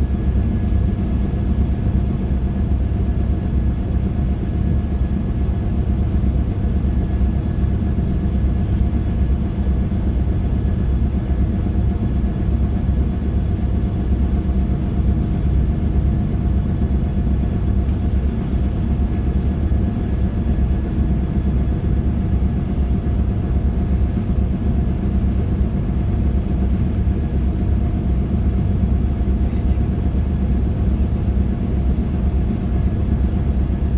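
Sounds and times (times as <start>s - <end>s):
ship engines rumbling: 0.0s - 33.8s.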